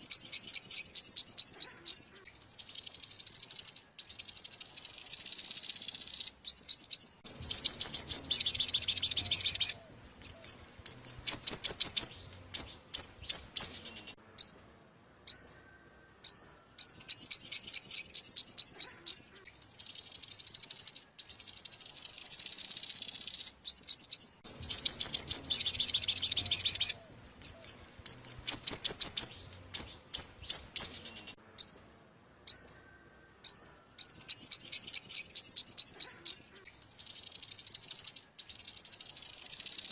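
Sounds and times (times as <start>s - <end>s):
bird trills: 0.0s - 39.9s
sharp bird chip notes: 0.3s - 32.9s.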